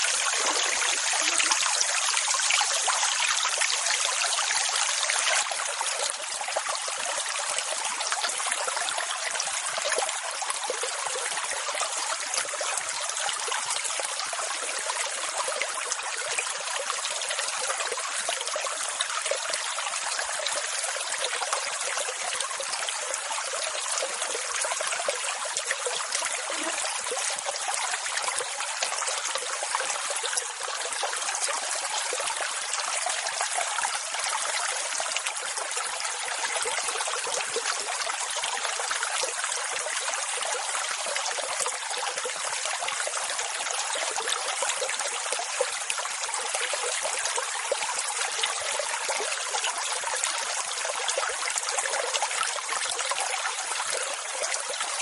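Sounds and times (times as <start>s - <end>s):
rushing splashing water: 0.0s - 55.0s.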